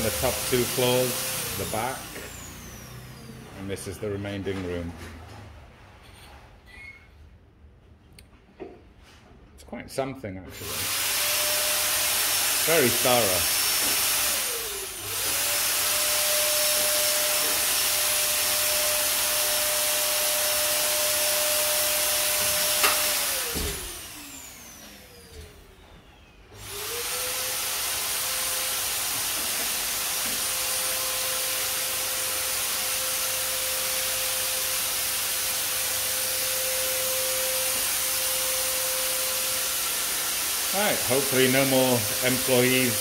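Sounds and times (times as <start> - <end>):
electric fogger motor whine: 0.0 - 3.6, 10.6 - 43.0.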